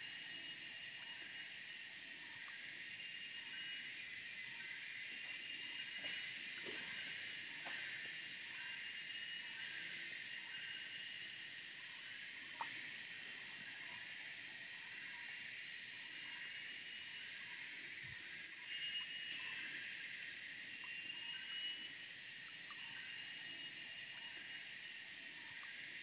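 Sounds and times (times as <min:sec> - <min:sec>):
faint thin steady tones: 0:00.0 - 0:26.0
high-pitched hiss: 0:00.0 - 0:26.0.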